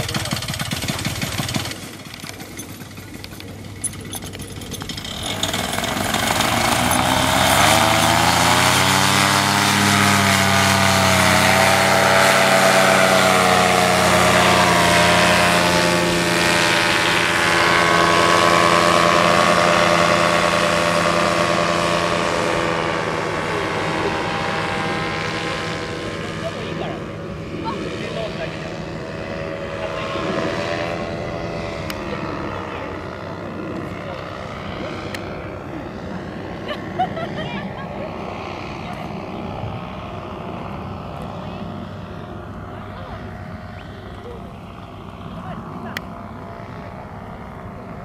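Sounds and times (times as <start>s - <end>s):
paramotor engine and propeller: 0.0s - 48.0s.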